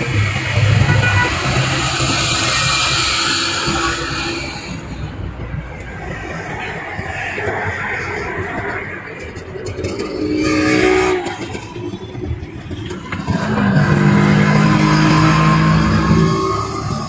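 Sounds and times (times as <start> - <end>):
auto-rickshaw engine drone: 0.0 - 17.0
traffic noise: 0.0 - 17.0.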